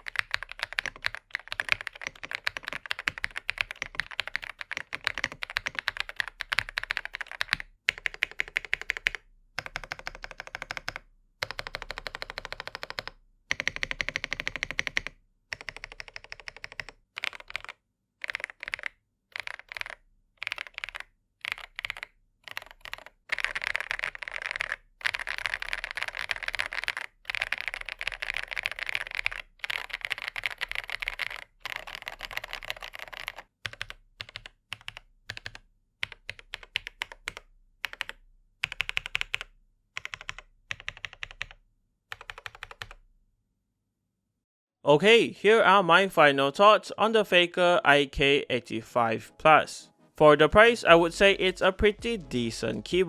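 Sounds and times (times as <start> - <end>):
mechanical keyboard typing: 0.0 - 43.0.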